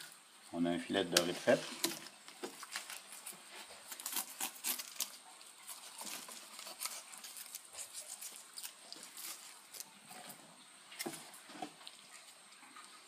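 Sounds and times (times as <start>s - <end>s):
wet ticking and crackling: 0.0s - 13.0s.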